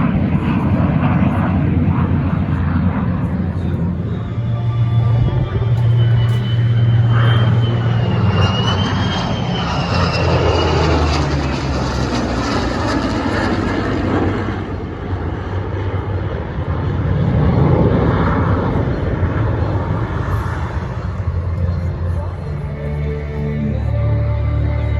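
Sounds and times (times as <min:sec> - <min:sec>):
airplane engine noise: 0:00.0 - 0:24.9
high wavering whine: 0:00.0 - 0:24.9.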